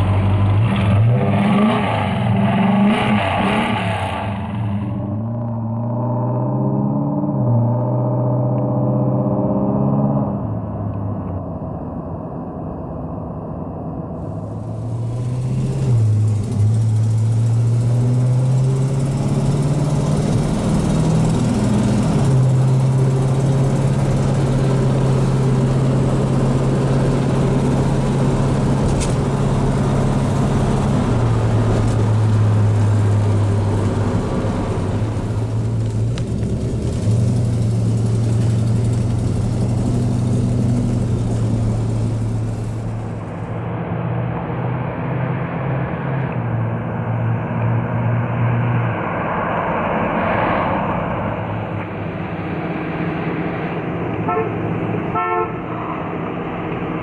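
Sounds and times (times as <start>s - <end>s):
car engine revving while driving: 0.0s - 10.6s, 14.4s - 55.4s.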